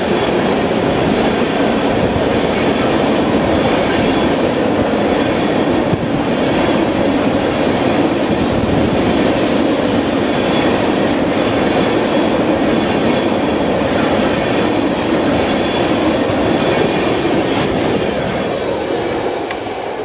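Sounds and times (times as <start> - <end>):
clickety-clack over rail joints: 0.0 - 19.8
freight train wheels rumbling: 0.0 - 20.0.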